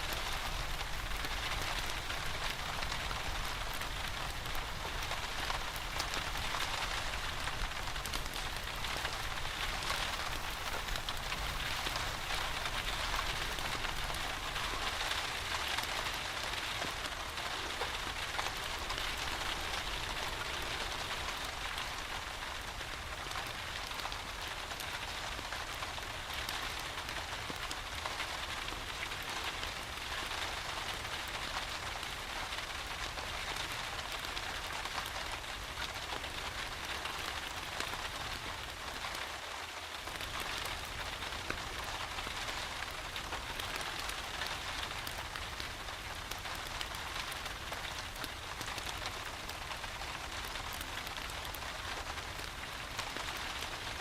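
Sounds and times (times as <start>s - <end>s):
rain pattering on surfaces: 0.0s - 54.0s
wood fire crackling: 0.0s - 54.0s.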